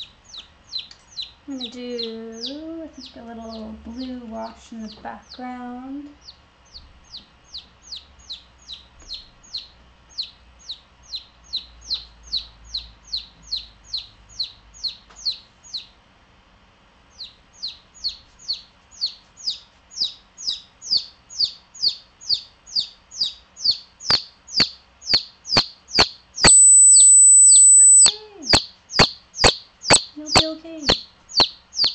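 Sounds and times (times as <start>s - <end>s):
chick peeping: 0.0s - 16.0s, 17.1s - 31.9s.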